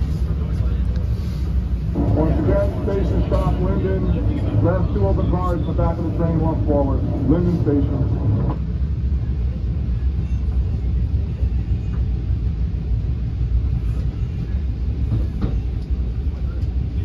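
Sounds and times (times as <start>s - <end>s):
train coach rumble: 0.0s - 17.0s.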